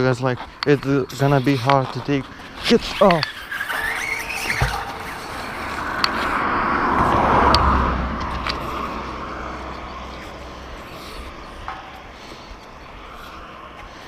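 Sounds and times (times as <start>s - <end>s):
vehicle passing by: 1.4s - 14.0s.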